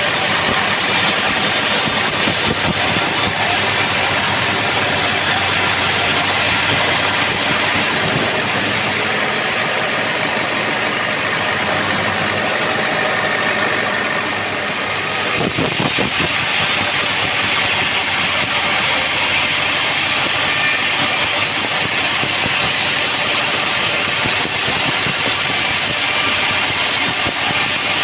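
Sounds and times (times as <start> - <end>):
band sawmill running: 0.0 - 28.0.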